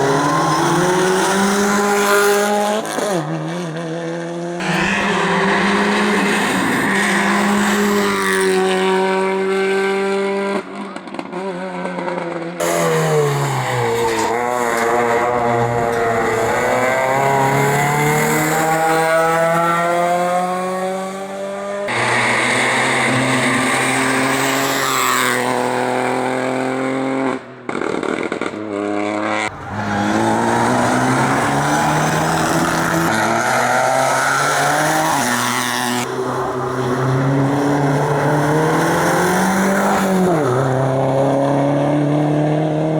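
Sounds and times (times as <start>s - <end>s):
racing car engines accelerating: 0.0s - 42.9s.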